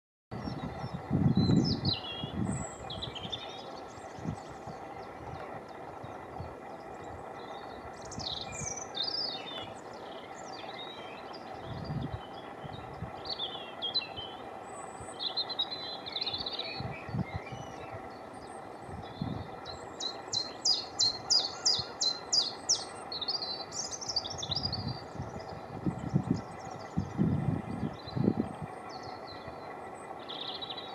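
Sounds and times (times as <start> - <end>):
steady low hum: 0.3 - 30.9
small birds warbling and trilling: 0.4 - 30.9.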